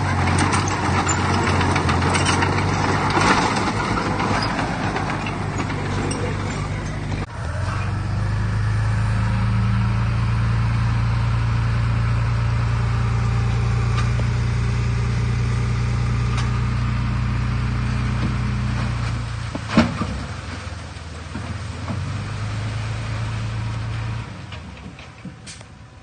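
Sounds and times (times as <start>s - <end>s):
heavy machinery diesel engine running: 0.0s - 26.0s.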